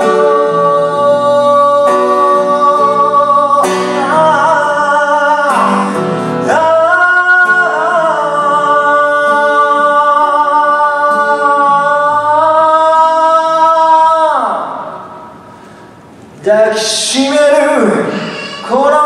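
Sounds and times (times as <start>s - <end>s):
man singing: 0.0s - 15.4s, 16.4s - 19.0s
acoustic guitar: 0.0s - 19.0s.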